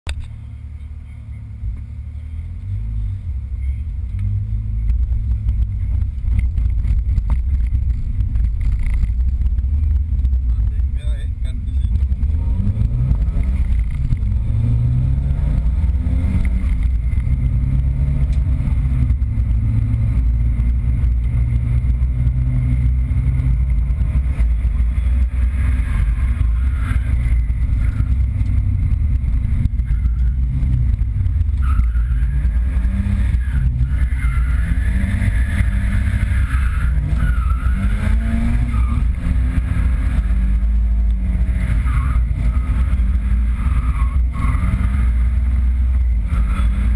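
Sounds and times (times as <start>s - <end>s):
car engine revving: 0.1s - 46.9s.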